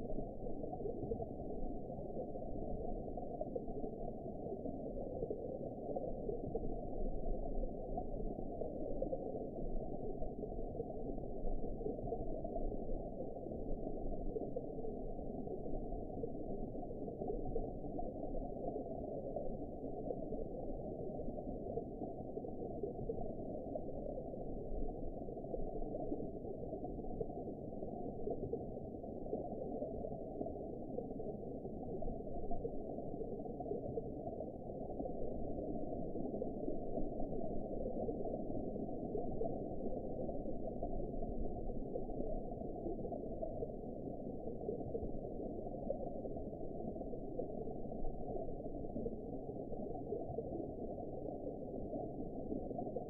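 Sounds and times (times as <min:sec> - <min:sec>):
muffled underwater rumble: 0:00.0 - 0:53.0.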